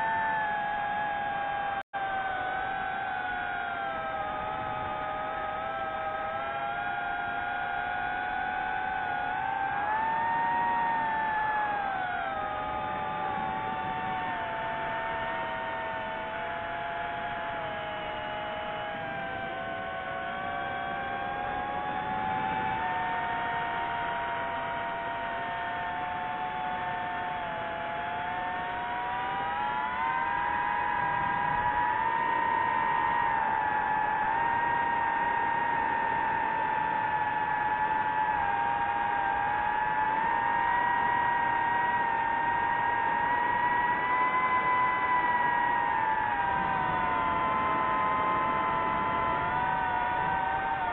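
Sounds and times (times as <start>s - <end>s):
drone propellers whining: 0.0s - 50.9s.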